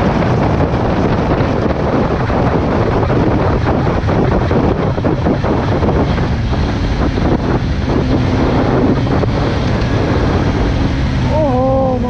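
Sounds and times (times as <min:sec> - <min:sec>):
motorcycle engine tone: 0:00.0 - 0:12.0
wind buffeting microphone: 0:00.0 - 0:12.0.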